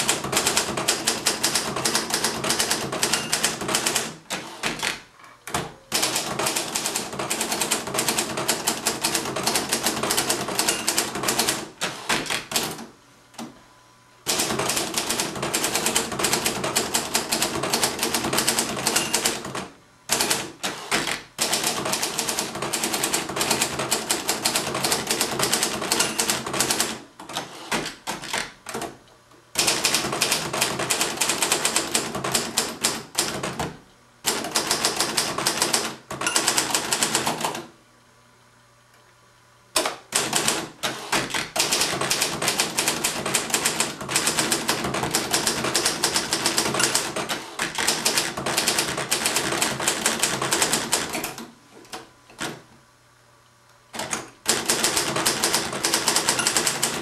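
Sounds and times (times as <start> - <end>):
manual typewriter typing: 0.0 - 12.9, 14.3 - 29.0, 29.6 - 33.7, 34.3 - 37.6, 39.8 - 51.4, 54.0 - 57.0.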